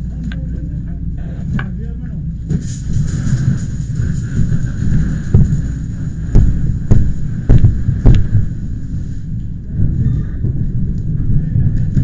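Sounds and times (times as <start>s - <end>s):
heavy low rumble: 0.0s - 12.0s.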